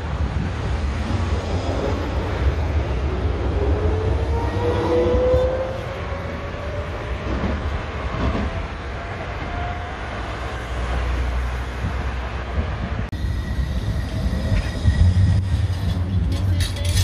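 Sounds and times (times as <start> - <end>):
road traffic: 0.0 - 17.0
tram wheels rumbling: 0.0 - 17.0.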